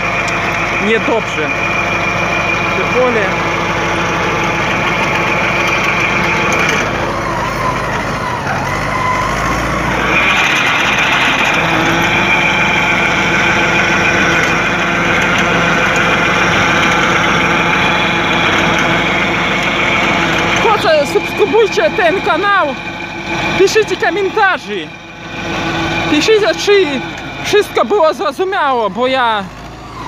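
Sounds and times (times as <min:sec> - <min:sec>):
rotary tiller churning soil: 0:00.0 - 0:30.0
tractor diesel engine under load: 0:00.0 - 0:30.0.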